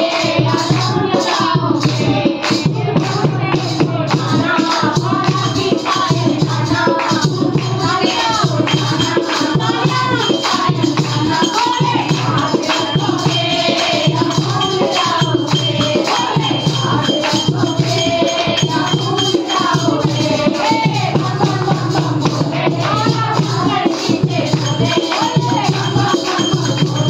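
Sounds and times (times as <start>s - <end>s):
rattling shaker: 0.0s - 27.0s
rhythmic hand-clapping: 0.0s - 27.0s
women singing devotional song: 0.0s - 27.0s.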